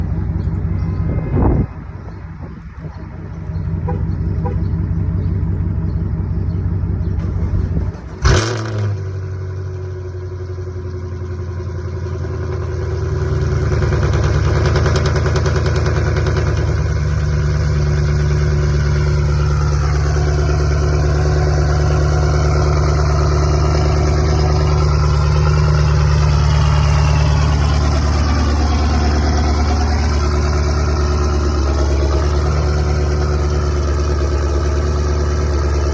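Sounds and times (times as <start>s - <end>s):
car engine cold idling: 0.0s - 35.9s.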